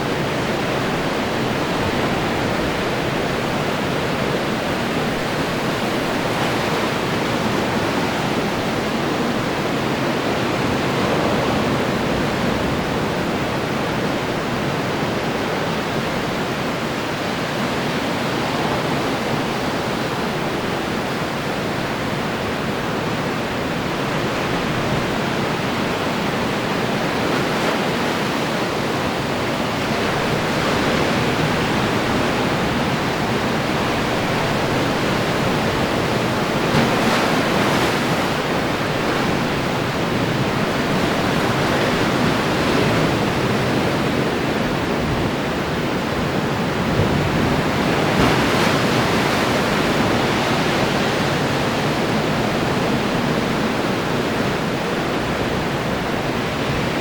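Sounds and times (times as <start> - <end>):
ocean waves washing: 0.0 - 57.0
waves breaking: 0.0 - 57.0.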